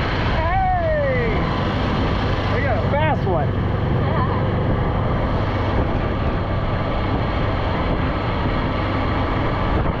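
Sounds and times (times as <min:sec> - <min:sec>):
golf cart driving: 0:00.0 - 0:10.0
road and air noise: 0:00.0 - 0:10.0.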